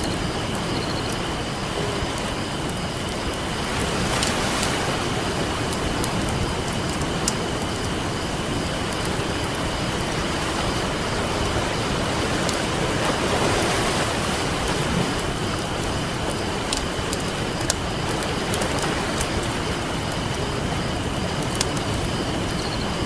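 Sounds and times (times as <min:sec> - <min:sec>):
campfire crackling and popping: 0:00.0 - 0:23.0
ocean waves washing on beach: 0:00.0 - 0:23.0.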